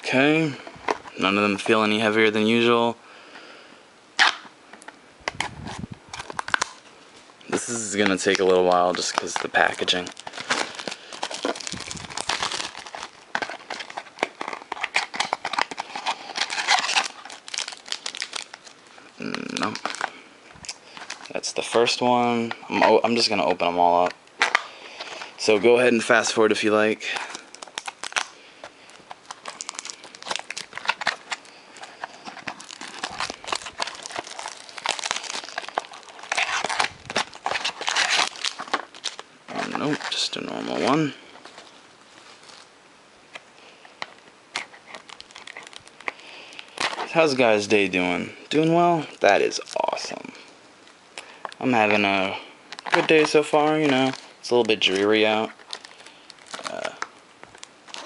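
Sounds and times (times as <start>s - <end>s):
plastic wrapping crinkling and tearing: 4.2s - 42.7s, 43.3s - 58.0s.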